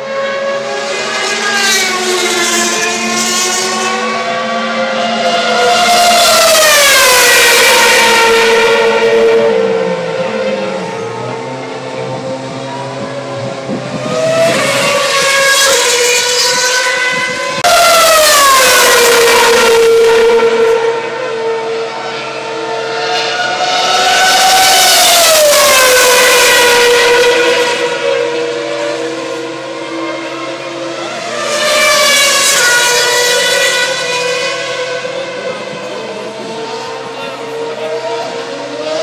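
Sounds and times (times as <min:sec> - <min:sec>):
racing car engine whine: 0:00.0 - 0:39.0.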